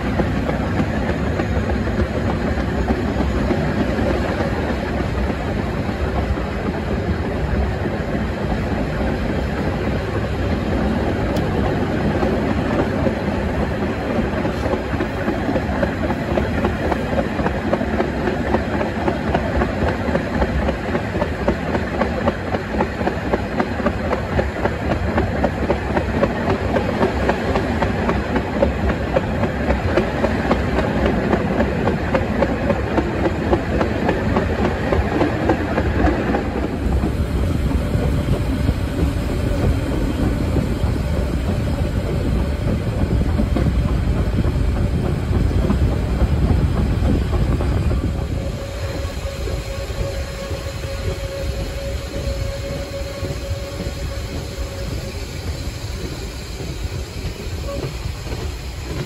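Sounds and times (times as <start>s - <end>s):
train carriages rumbling: 0.0s - 59.0s.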